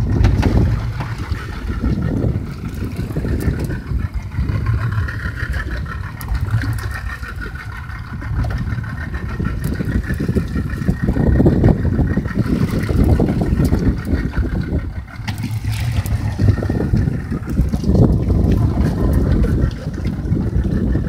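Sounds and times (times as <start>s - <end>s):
outboard motor rumbling: 0.0s - 21.0s
water noise: 0.0s - 21.0s
wind: 0.0s - 21.0s.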